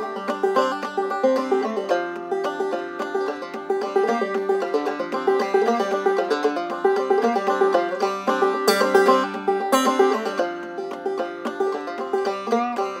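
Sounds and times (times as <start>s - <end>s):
banjo plucked clawhammer style: 0.0s - 13.0s.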